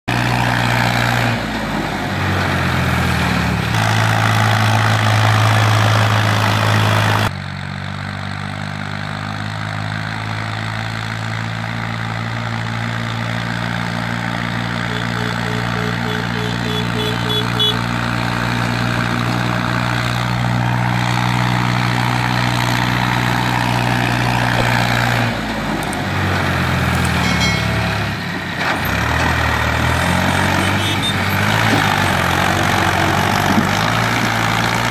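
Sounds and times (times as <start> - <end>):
tractor diesel engine droning: 0.1 - 34.9.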